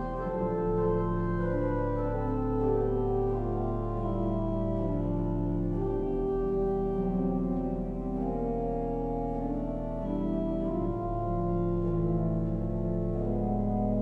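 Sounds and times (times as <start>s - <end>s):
organ playing chords: 0.0s - 14.0s.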